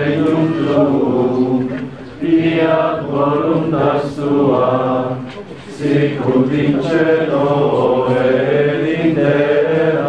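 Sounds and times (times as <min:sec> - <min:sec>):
voices singing slow chant: 0:00.0 - 0:10.0.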